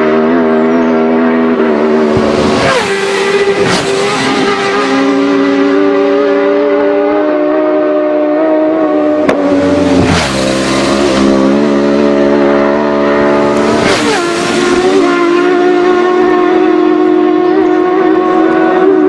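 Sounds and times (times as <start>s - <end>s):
racing motorbikes passing: 0.0s - 19.0s.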